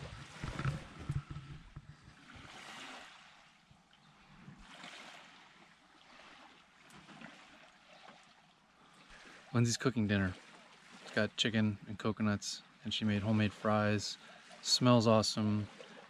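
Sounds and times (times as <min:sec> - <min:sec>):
small waves lapping on sand: 0:00.0 - 0:16.0.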